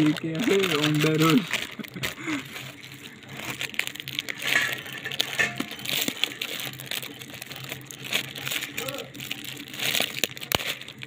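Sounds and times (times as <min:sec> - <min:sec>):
foil packaging crinkling: 0:00.0 - 0:11.0.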